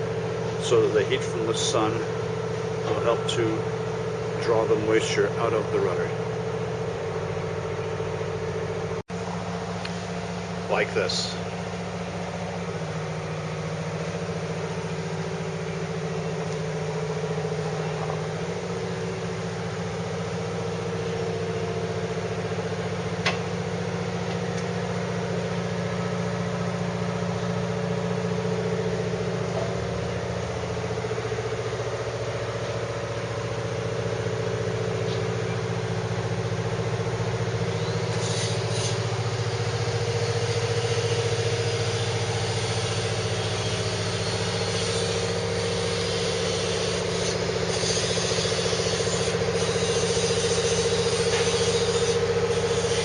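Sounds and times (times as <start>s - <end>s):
motor humming: 0.0s - 53.0s.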